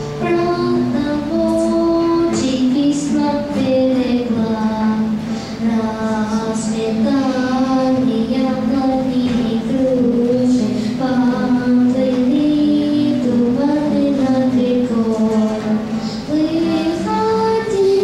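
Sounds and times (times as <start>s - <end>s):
girl singing: 0.0s - 18.0s
nylon-string guitar: 0.0s - 18.0s.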